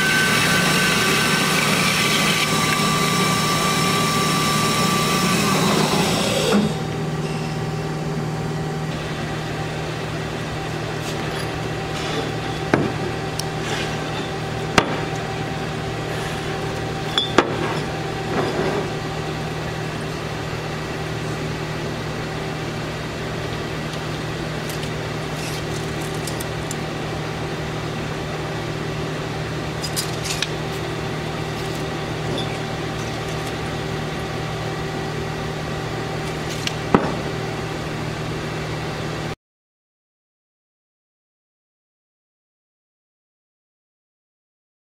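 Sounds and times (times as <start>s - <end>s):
band saw humming: 0.0s - 38.8s.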